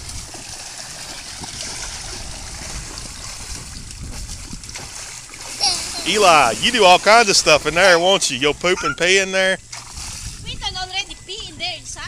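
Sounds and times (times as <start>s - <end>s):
water sloshing in pool: 0.0s - 12.0s.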